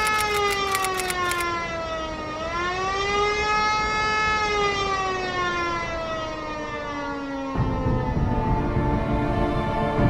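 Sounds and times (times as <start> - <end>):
siren wailing: 0.0 - 8.4.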